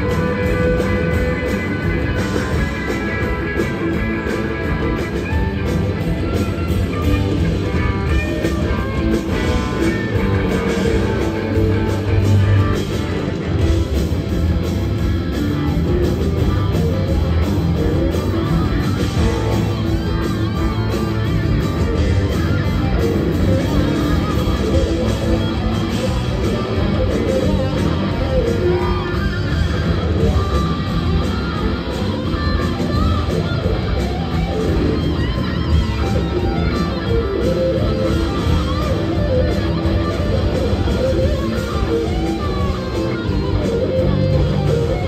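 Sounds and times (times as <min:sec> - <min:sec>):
drums: 0:00.0 - 0:45.0
electric bass: 0:00.0 - 0:45.0
keyboards: 0:00.0 - 0:45.0
lead electric guitar: 0:00.0 - 0:45.0.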